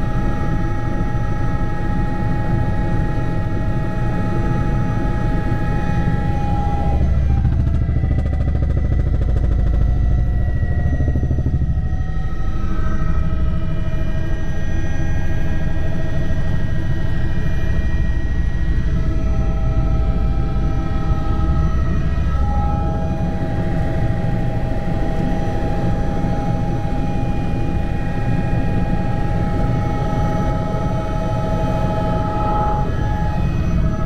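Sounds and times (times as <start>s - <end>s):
helicopter rotor and engine rumble: 0.0s - 34.0s
whining tones: 3.6s - 15.3s, 16.6s - 34.0s.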